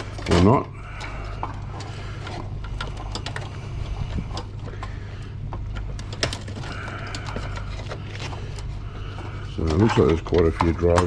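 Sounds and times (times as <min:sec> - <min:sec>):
cables and connectors clicking: 0:00.0 - 0:11.0
steady low hum: 0:00.0 - 0:11.0.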